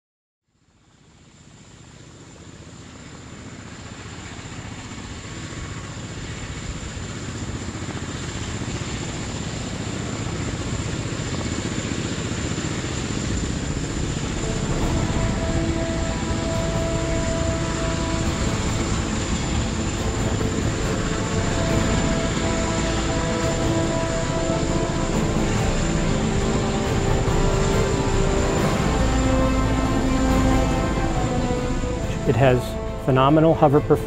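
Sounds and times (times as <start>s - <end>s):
helicopter rotor and turbine: 0.6s - 34.0s.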